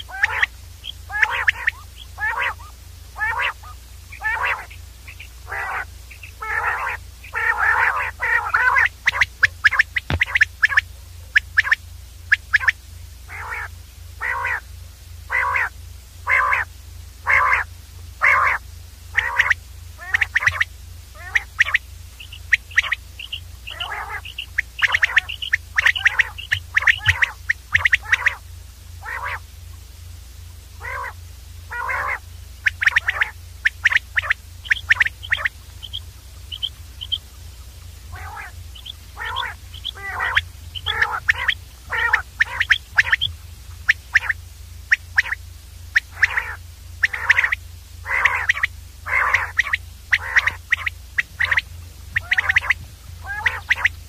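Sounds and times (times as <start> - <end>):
quail calls: 0.0 - 14.7, 15.3 - 28.4, 29.0 - 29.5, 30.8 - 54.0
faint low hum: 0.0 - 54.0.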